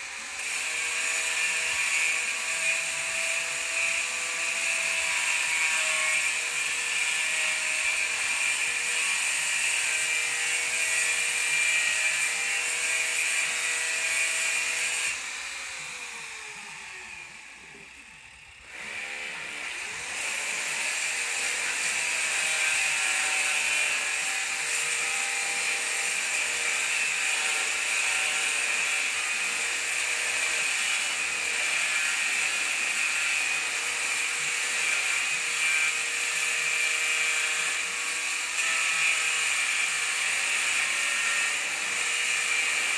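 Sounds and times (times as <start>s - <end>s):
power tool motor whining: 0.0s - 42.9s.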